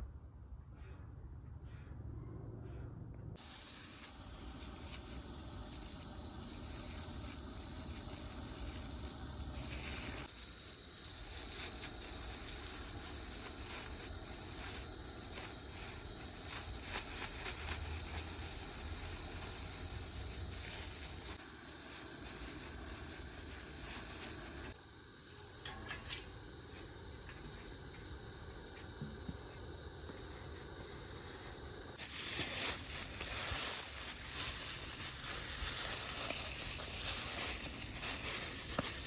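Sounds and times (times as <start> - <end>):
insects chirring: 3.4 - 39.0.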